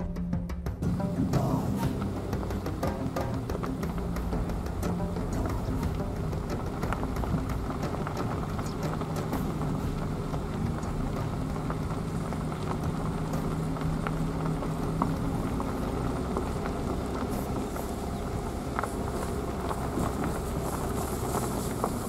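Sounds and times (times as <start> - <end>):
car engine rumble: 0.0 - 22.0
low hum: 0.0 - 22.0.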